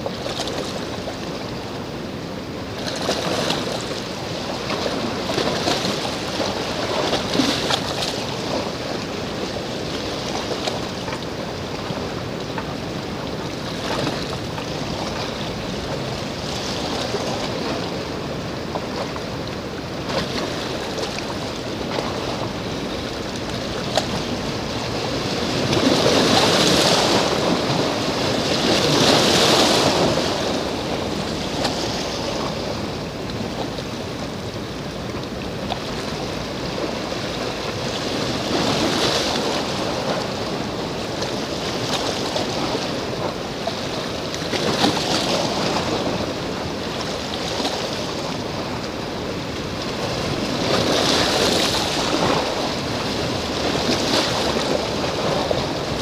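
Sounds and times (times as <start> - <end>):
small waves washing on shore: 0.0 - 56.0.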